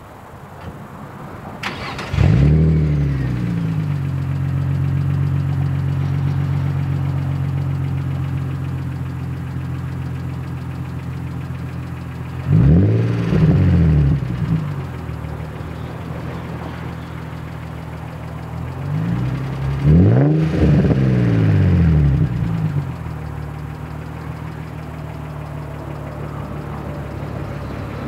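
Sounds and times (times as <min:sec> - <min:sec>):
car engine starting and idling: 0:00.4 - 0:28.0
engine throttle blips: 0:01.6 - 0:28.0.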